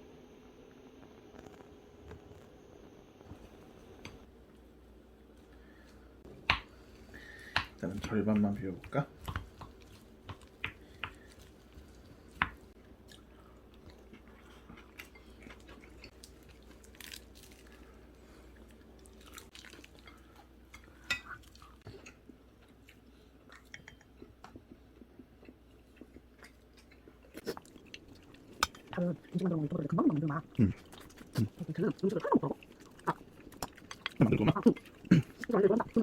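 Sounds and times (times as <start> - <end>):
people chewing: 5.3 - 36.0.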